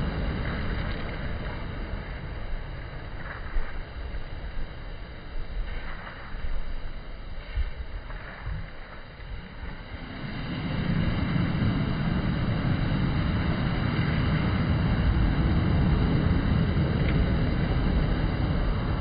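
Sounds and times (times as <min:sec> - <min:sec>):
waves breaking on pebble beach: 0:00.0 - 0:19.0.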